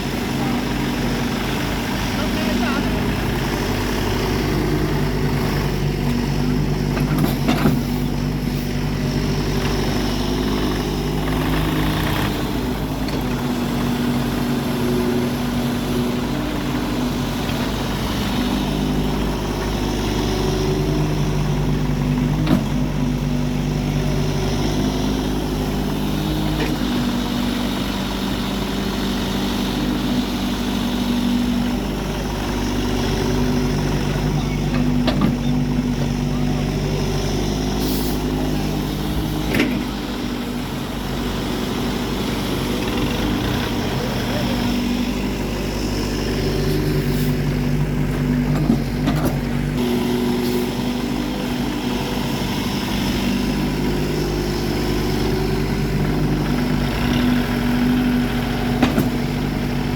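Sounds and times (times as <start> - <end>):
heavy farm machine engine: 0.0 - 59.9.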